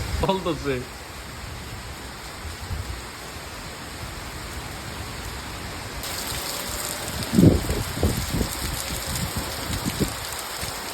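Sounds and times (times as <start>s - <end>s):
rain falling: 0.0s - 10.9s.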